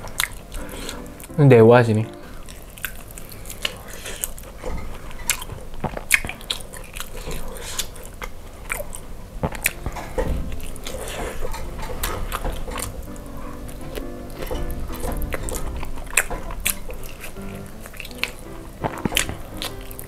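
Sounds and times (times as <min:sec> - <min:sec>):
biting and chewing meat: 0:00.0 - 0:01.4, 0:02.4 - 0:20.0
mouth clicks and smacks: 0:00.0 - 0:01.4, 0:02.4 - 0:20.0.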